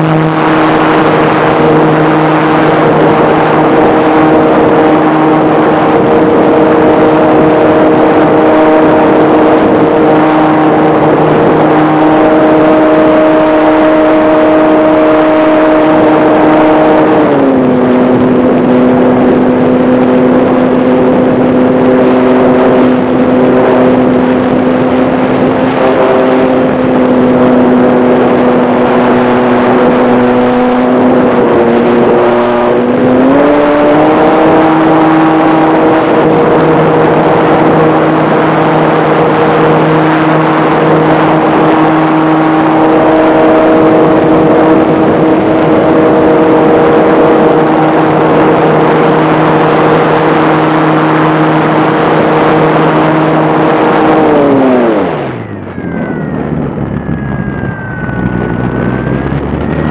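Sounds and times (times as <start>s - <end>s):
rush of air: 0.0s - 59.9s.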